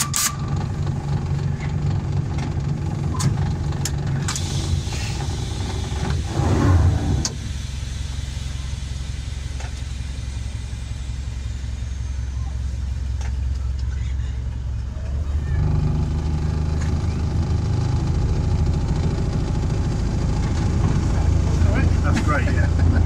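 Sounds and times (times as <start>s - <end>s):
locomotive engine idling: 0.0s - 23.0s.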